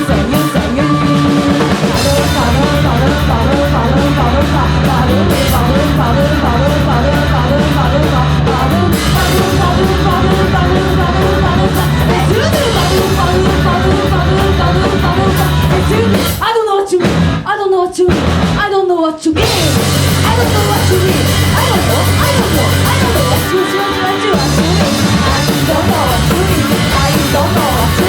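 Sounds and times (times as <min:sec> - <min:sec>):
punk rock band playing: 0:00.0 - 0:17.5, 0:18.1 - 0:18.7, 0:19.4 - 0:28.0
person singing: 0:00.0 - 0:28.0.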